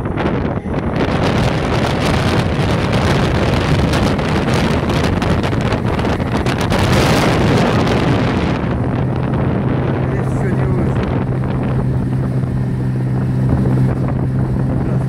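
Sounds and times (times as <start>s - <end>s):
outboard motor droning: 0.0s - 15.0s
water rushing from wake: 0.0s - 15.0s
wind buffeting microphone: 0.0s - 15.0s.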